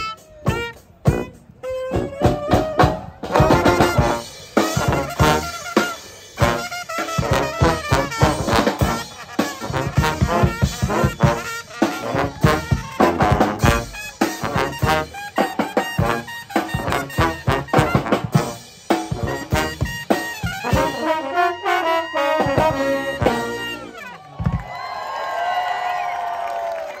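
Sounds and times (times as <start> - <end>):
brass band playing: 0.0 - 24.6
drums: 0.0 - 25.4.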